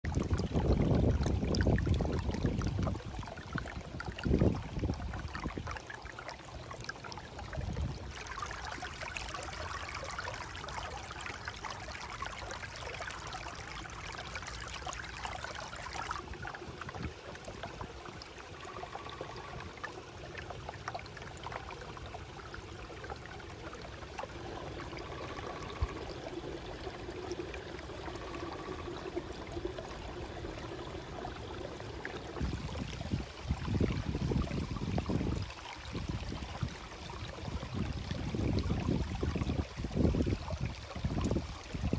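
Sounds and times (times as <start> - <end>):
creek water running over rocks: 0.0 - 41.9.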